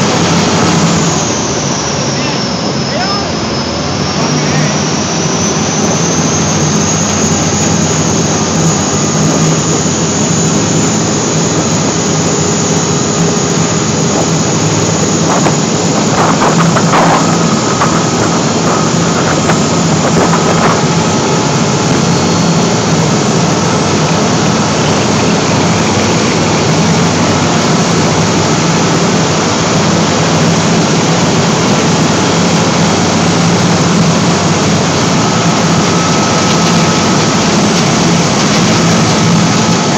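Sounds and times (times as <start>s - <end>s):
boat engine running hard: 0.0s - 39.9s
water churning: 0.0s - 39.9s.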